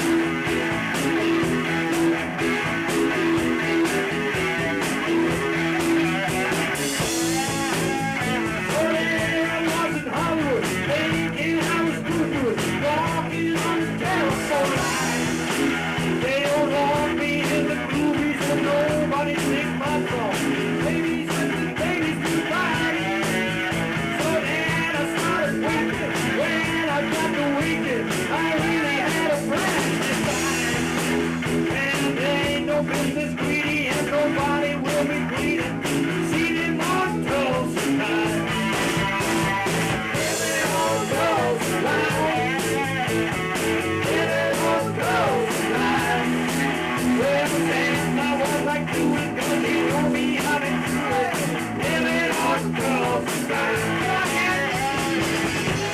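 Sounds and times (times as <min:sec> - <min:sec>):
drums: 0:00.0 - 0:55.9
electric guitar: 0:00.0 - 0:55.9
person singing: 0:00.0 - 0:55.9.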